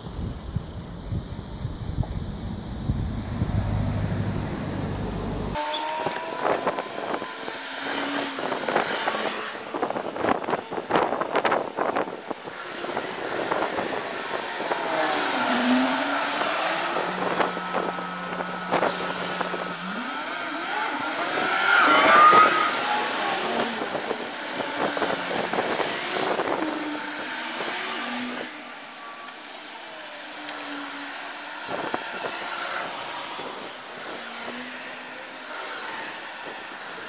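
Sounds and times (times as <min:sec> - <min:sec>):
buses and cars passing: 0:00.0 - 0:37.0.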